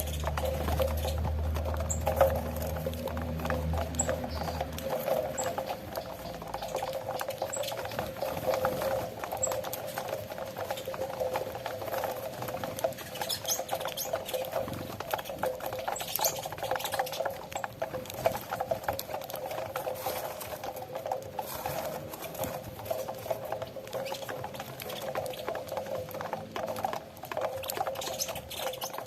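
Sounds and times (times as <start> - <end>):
birds pecking grain: 0.0 - 29.0.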